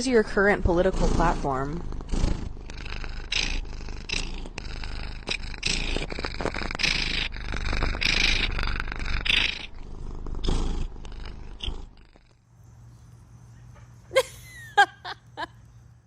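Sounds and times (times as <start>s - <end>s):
cat purring: 0.0s - 13.2s.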